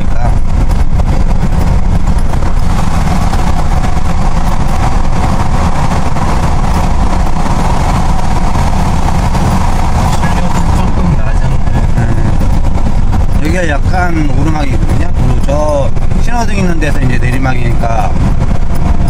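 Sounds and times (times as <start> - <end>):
car engine drone: 0.0 - 19.0
mid-pitched hum: 0.0 - 19.0
tyre road noise: 0.0 - 19.0.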